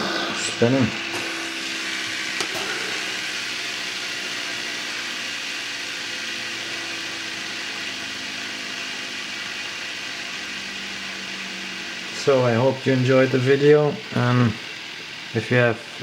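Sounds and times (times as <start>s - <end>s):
fidget spinner whirring: 0.0s - 16.0s.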